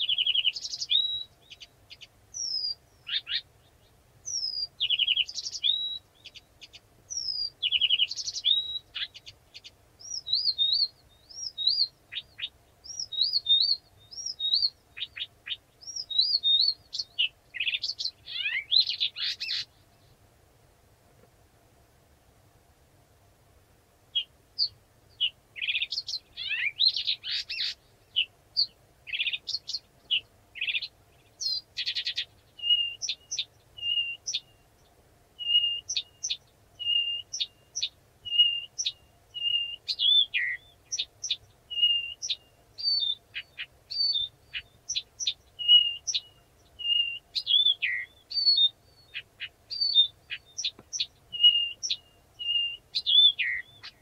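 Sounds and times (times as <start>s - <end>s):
warbler singing: 0.0s - 20.2s, 24.1s - 54.0s.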